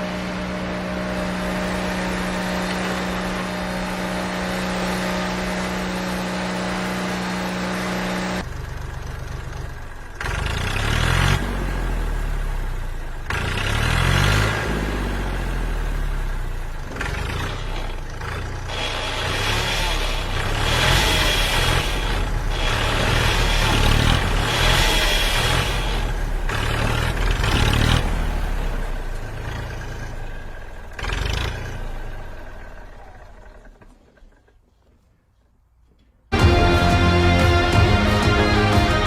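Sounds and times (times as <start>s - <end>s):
engine revving: 0.0s - 33.9s
vehicle engine humming: 0.0s - 39.0s.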